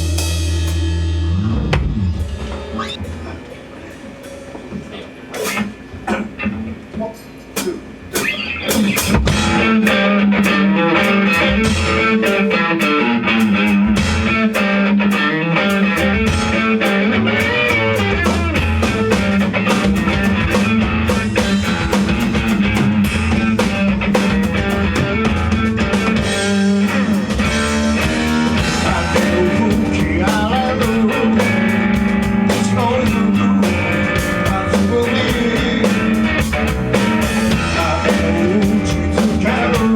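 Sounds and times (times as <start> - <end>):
rock band playing live: 0.0 - 5.8, 7.6 - 39.9.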